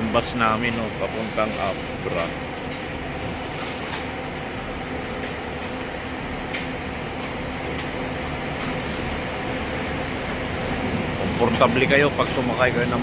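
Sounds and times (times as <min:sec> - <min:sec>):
buses idling: 0:00.0 - 0:13.0.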